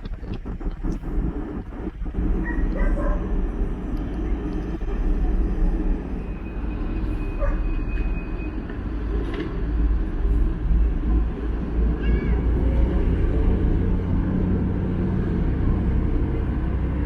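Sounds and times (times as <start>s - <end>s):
ferry diesel engine rumble: 0.0s - 17.0s.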